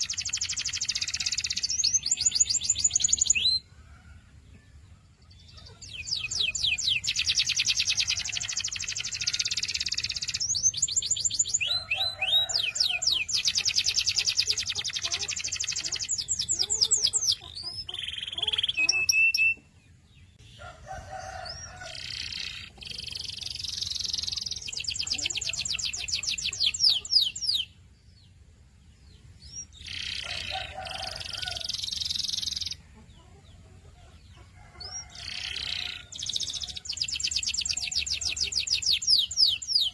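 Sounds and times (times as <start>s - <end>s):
canary singing trills: 0.0s - 3.7s, 5.2s - 28.4s, 29.0s - 39.9s.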